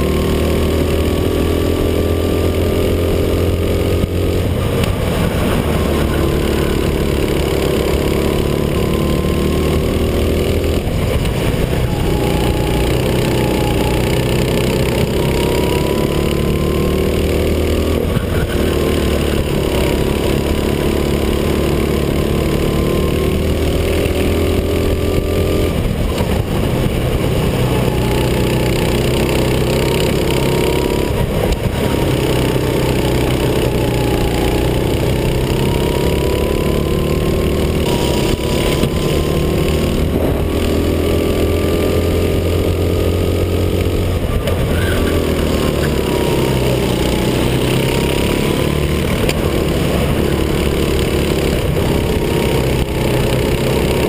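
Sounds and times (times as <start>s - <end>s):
kart engine at high revs: 0.0s - 54.0s.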